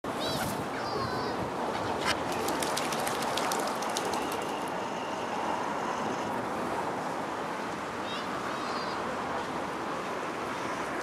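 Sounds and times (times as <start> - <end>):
distant traffic rush: 0.0 - 11.0.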